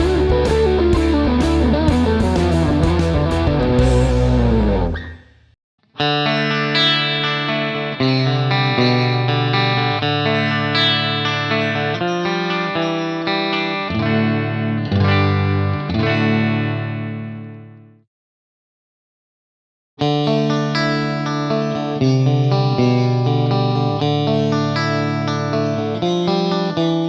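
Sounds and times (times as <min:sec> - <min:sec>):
clean electric guitar chords: 0:00.0 - 0:05.2, 0:06.0 - 0:17.8, 0:20.0 - 0:27.0.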